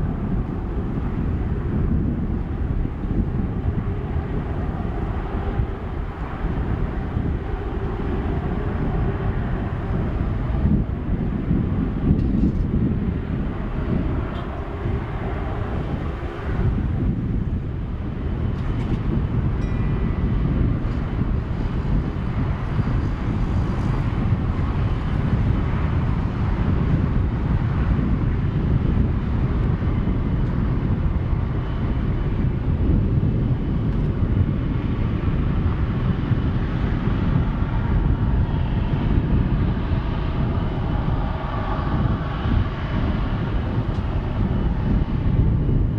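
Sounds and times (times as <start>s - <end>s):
jet airliner engines roaring: 0.0s - 45.9s.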